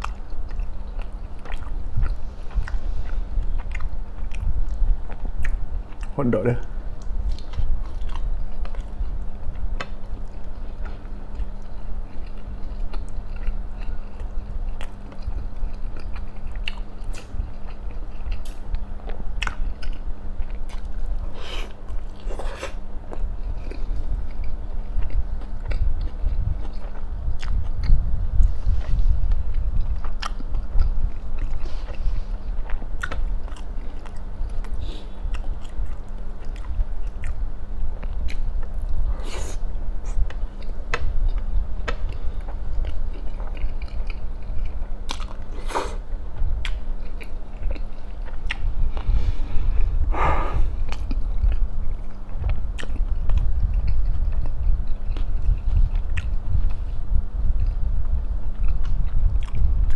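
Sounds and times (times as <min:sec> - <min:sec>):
chewing and biting bread: 0:00.0 - 0:06.2, 0:07.0 - 0:59.9.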